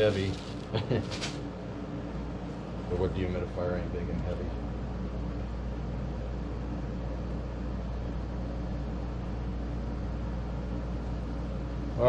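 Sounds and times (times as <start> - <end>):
dehumidifier humming: 0.0 - 12.0
fan air rush: 0.0 - 12.0.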